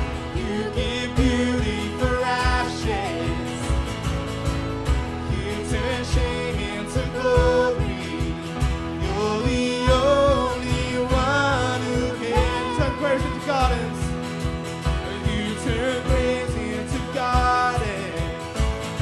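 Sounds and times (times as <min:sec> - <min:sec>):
steady drum beat: 0:00.0 - 0:19.0
worship band music: 0:00.0 - 0:19.0.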